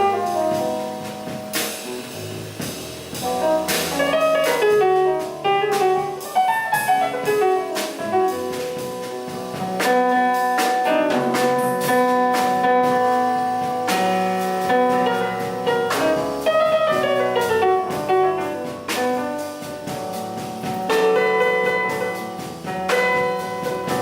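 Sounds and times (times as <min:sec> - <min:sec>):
drums and cymbals: 0:00.0 - 0:24.0
jazz piano: 0:00.0 - 0:24.0.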